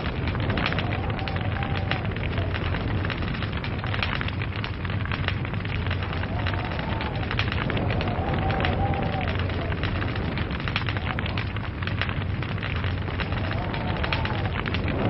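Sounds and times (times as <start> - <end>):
log fire crackling: 0.0 - 15.0.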